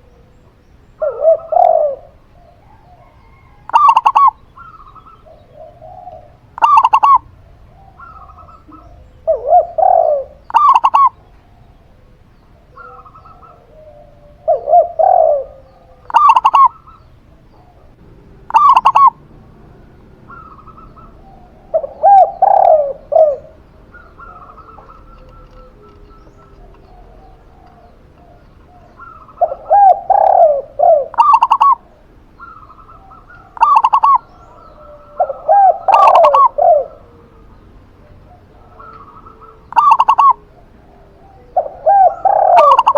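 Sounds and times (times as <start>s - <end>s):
high sharp dove calls: 0.0s - 42.9s
low rolling dove coos: 0.0s - 42.9s.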